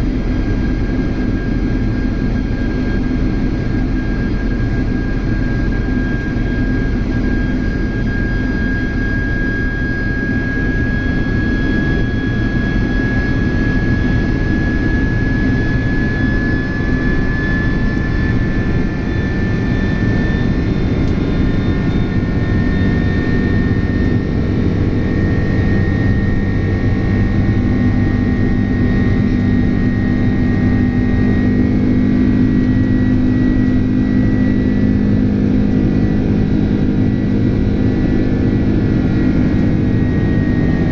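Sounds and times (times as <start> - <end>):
jet engines roaring in flight: 0.0 - 40.9
low hum: 0.0 - 40.9.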